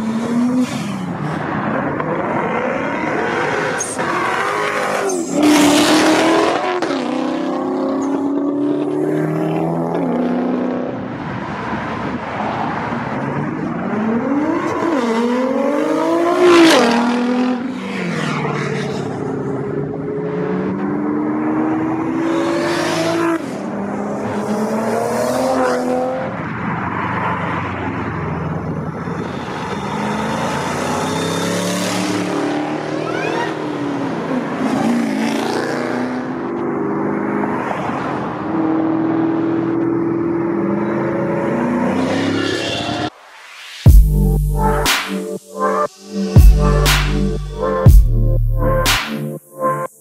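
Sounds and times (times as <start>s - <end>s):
car engines revving and accelerating: 0.0s - 43.2s.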